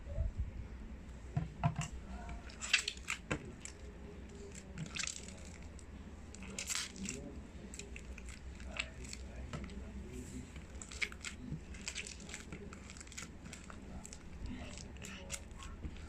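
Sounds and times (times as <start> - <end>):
slime being stirred: 2.0 - 16.0
wet squishing sounds: 2.0 - 16.0.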